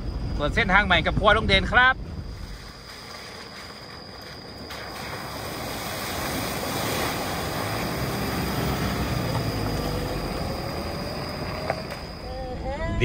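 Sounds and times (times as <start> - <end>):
vehicle road and engine rumble: 2.0 - 13.0.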